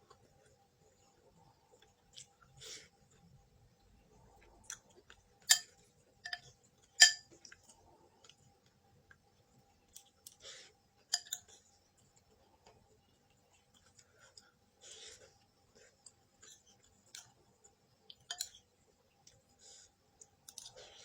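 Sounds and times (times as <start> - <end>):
quiet chewing: 0.0 - 21.0.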